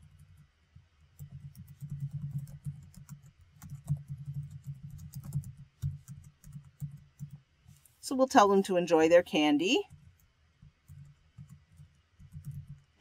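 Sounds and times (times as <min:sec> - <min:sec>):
typing on computer keyboard: 0:00.0 - 0:07.4, 0:09.8 - 0:13.0.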